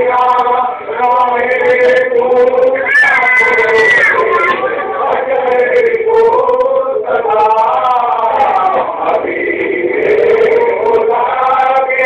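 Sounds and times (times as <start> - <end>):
men chanting a hymn: 0.0 - 12.0.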